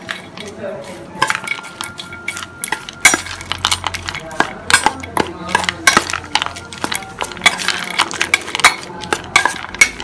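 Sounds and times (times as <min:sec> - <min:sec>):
spoon clinking in steel bowl: 0:00.0 - 0:10.0.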